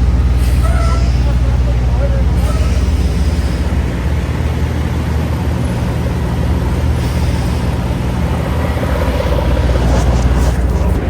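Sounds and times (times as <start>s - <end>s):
road noise: 0.0s - 11.0s
truck engine droning: 0.0s - 11.0s.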